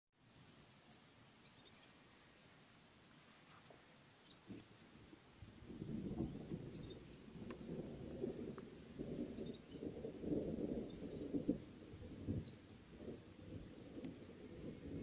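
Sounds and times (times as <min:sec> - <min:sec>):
bird chirping: 0:00.4 - 0:11.6, 0:12.3 - 0:13.0, 0:14.5 - 0:15.0.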